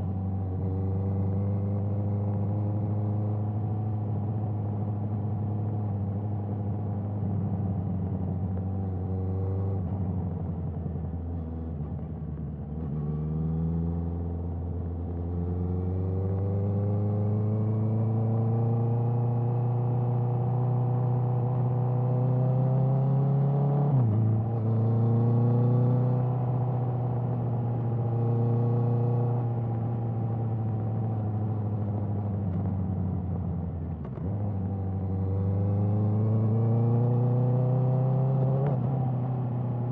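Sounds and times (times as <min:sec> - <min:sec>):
motorcycle engine accelerating: 0:06.8 - 0:39.9.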